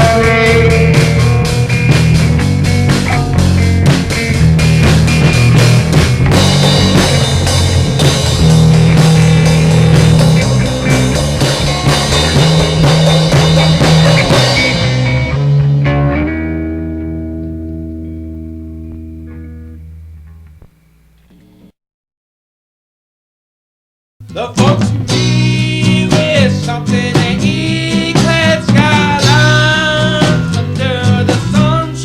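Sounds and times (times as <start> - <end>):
drum kit: 0.0 - 18.0, 24.2 - 32.0
bass: 0.0 - 21.7, 24.2 - 32.0
guitar: 0.0 - 21.8, 24.2 - 32.0.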